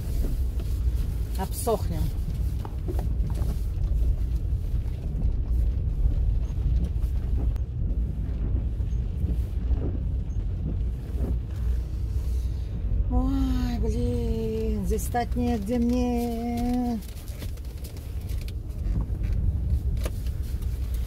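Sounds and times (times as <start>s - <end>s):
car cabin low rumble: 0.0s - 21.0s
rain on windshield: 0.0s - 21.0s.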